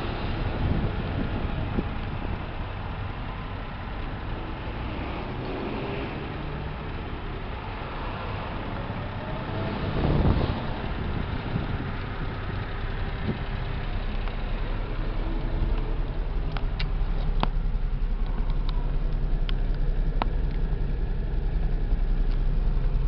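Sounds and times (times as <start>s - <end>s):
small engine idling: 0.0s - 23.0s.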